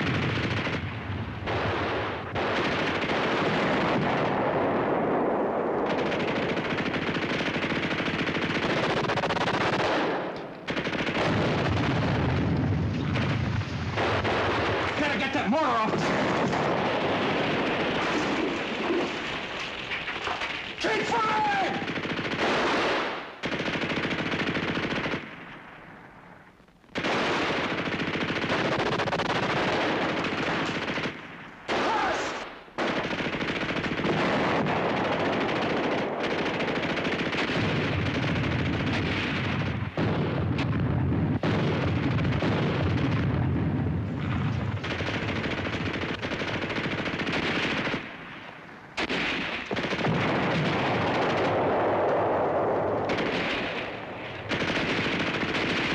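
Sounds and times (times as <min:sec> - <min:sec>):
machine-gun fire: 0:00.0 - 0:25.6, 0:26.9 - 0:55.9.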